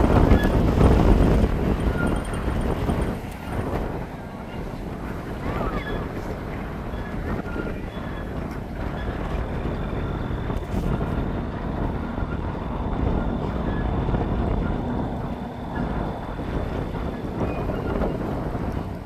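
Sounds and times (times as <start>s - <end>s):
freight train rolling past: 0.0s - 19.0s
wind buffeting microphone: 0.0s - 19.0s.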